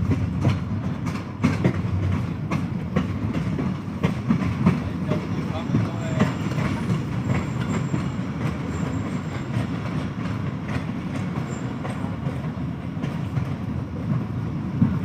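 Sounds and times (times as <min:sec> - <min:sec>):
rail joint clicks: 0:00.0 - 0:15.0
train wheels rumbling on rails: 0:00.0 - 0:15.0.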